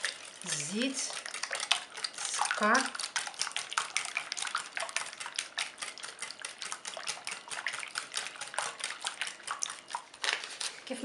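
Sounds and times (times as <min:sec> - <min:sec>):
batter beaten by hand in bowl: 0:00.0 - 0:11.0.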